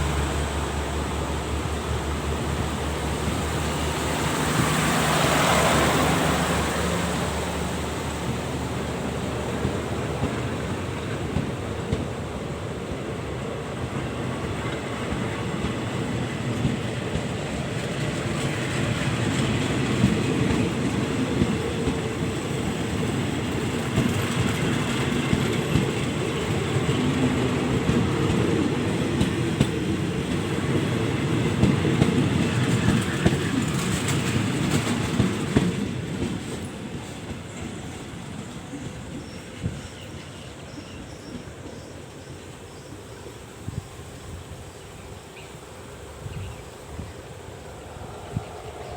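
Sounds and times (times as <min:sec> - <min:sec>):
train wheels clacking: 0:00.0 - 0:42.6
train rumbling on rails: 0:00.0 - 0:48.9.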